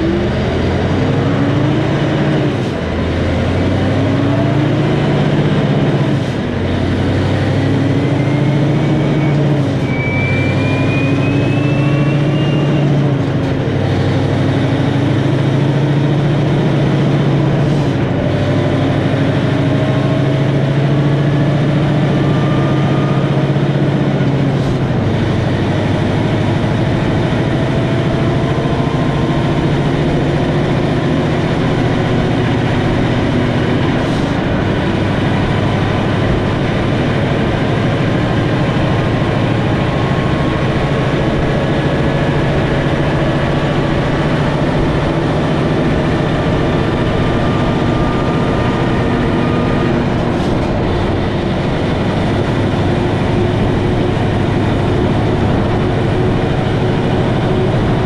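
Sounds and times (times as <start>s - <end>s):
truck diesel engine accelerating: 0.0s - 58.0s
tyre and road noise: 0.0s - 58.0s.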